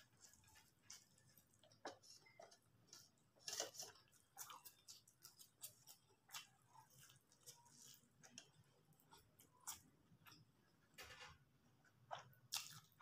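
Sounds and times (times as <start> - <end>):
person chewing noodles: 0.0 - 10.9, 11.8 - 13.0.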